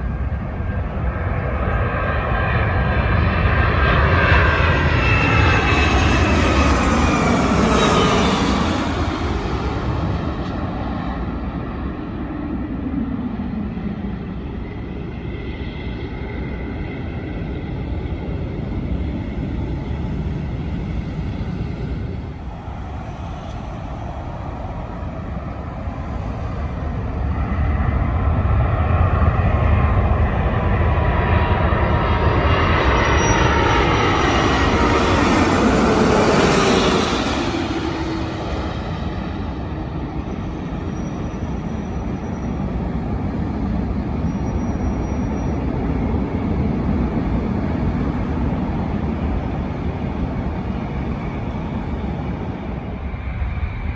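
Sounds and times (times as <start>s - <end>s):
jet airliner passing overhead: 0.0s - 53.9s.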